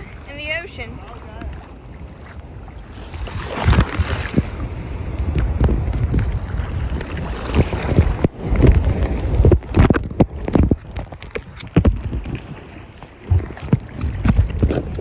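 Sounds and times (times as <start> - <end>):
ocean water splashing: 0.0 - 15.0
wind buffeting microphone: 0.0 - 15.0.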